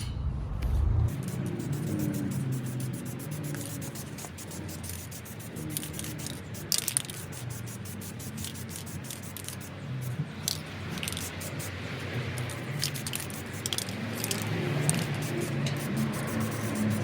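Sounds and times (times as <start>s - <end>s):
spray can hissing: 1.1s - 17.0s.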